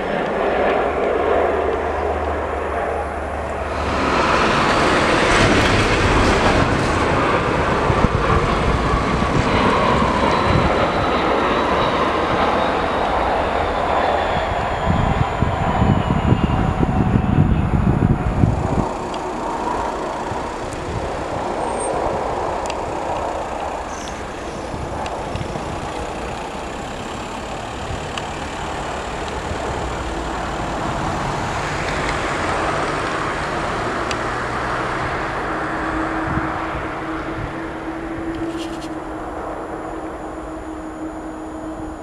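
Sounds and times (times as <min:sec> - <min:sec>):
faint steady whine: 0:00.0 - 0:42.0
landing jet low rumble: 0:00.0 - 0:42.0
taxiing jet engines rushing: 0:00.0 - 0:42.0.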